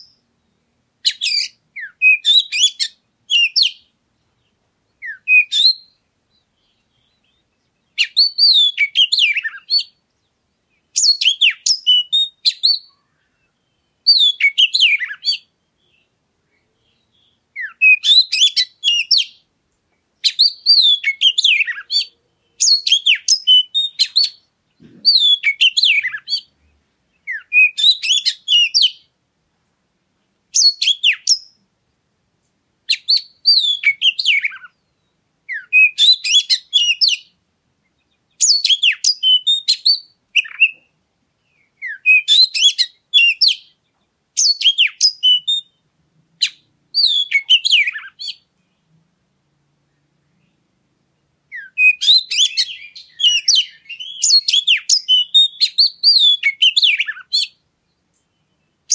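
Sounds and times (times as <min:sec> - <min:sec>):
bird singing whistles and chirps: 0:00.0 - 0:19.4, 0:20.2 - 0:29.1, 0:30.5 - 0:31.6, 0:32.9 - 0:48.5, 0:51.5 - 0:58.9.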